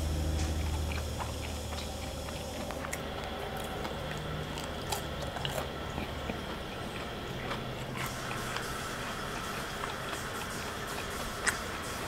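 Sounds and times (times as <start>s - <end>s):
person chewing crispy food: 0.0s - 12.0s.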